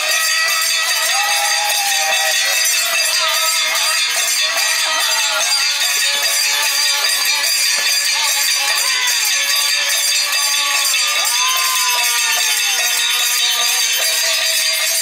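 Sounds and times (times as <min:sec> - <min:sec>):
hand cymbals clashing: 0:00.0 - 0:15.0
man singing: 0:00.0 - 0:15.0.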